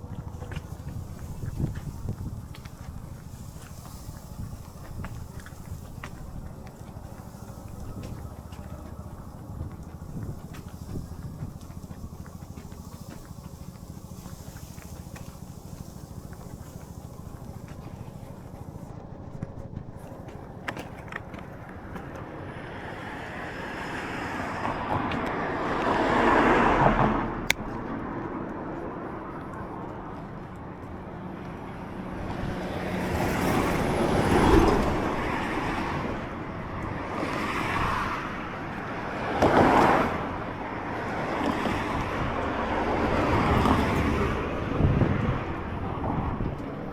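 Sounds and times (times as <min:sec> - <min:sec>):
traffic hum: 0:00.0 - 0:46.9
vehicles passing: 0:00.0 - 0:46.9.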